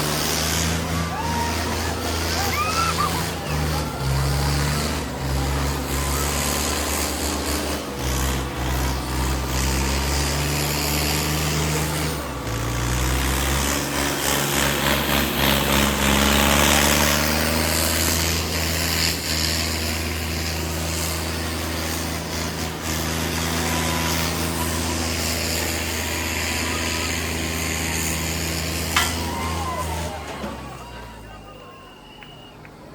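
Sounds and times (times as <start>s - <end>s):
tractor diesel engines running: 0.0s - 32.9s.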